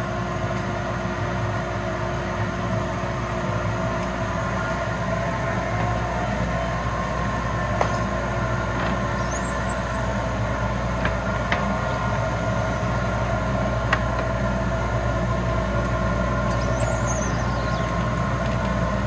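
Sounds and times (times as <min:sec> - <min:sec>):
electric machine hum: 0:00.0 - 0:19.0.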